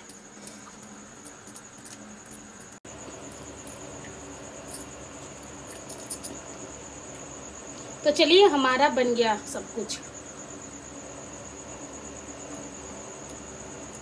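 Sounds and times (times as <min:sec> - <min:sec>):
cricket trilling: 0:00.0 - 0:14.0.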